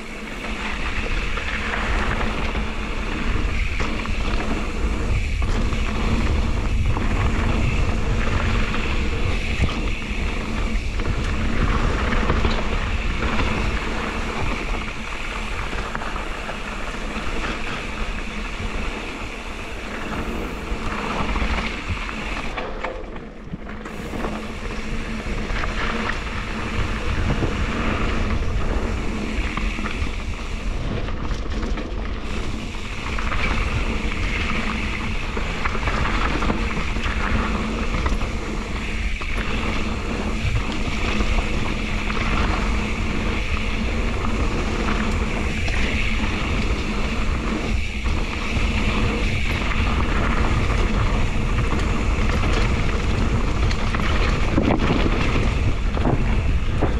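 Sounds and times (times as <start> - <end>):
bike tyres rumbling over stones: 0.0 - 56.9
wind noise on microphone: 0.0 - 56.9.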